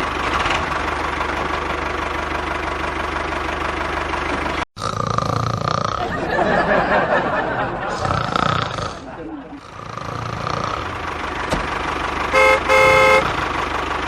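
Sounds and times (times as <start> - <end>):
small engine running: 0.0 - 6.4, 7.8 - 14.0.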